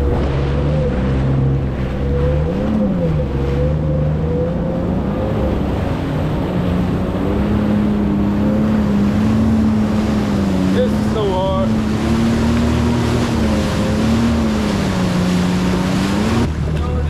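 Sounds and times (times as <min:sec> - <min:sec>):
jet ski engine running: 0:00.0 - 0:17.0
wind and water noise: 0:00.0 - 0:17.0.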